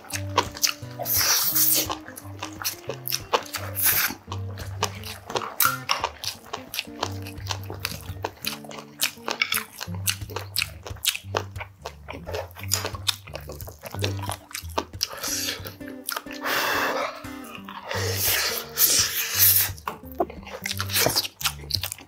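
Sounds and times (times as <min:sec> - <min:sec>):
crunchy bites and chewing: 0:00.0 - 0:16.4, 0:17.0 - 0:22.0
background music with low bass: 0:00.0 - 0:22.0.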